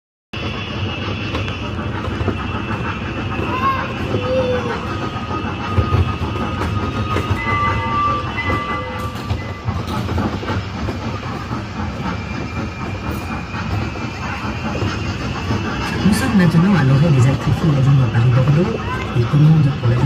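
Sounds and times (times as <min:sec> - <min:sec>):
train rumbling on rails: 0:00.4 - 0:20.0
wheels clickety-clack: 0:00.4 - 0:20.0.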